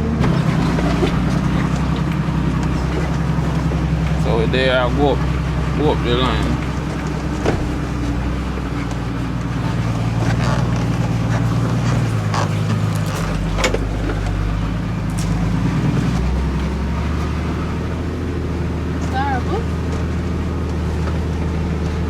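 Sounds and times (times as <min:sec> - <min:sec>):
diesel truck engine: 0:00.0 - 0:22.0
sharp knocks and rattles: 0:00.2 - 0:22.0.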